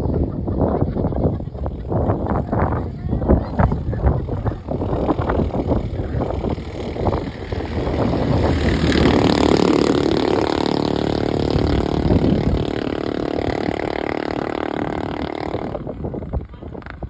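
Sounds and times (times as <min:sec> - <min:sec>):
motorcycle engine running: 0:01.4 - 0:17.0
steady rushing noise: 0:02.0 - 0:17.0.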